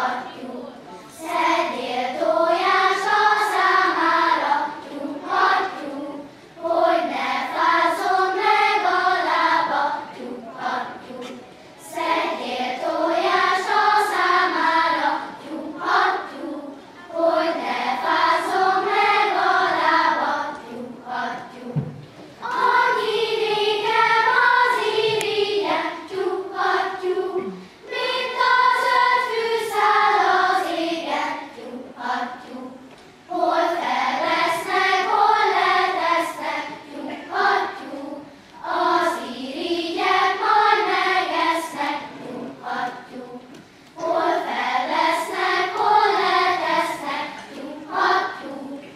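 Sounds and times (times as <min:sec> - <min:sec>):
children's choir singing: 0:00.0 - 0:48.9.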